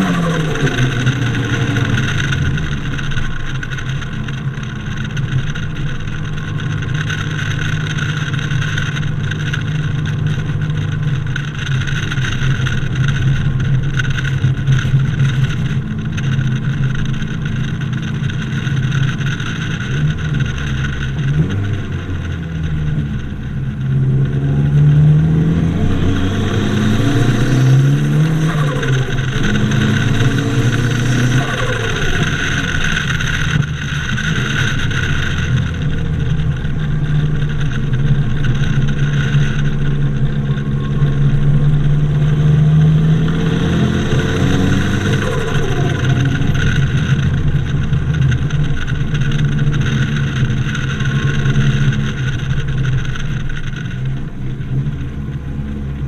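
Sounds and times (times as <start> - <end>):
turbo car engine revving: 0.0 - 56.0
wind and road noise: 0.0 - 56.0.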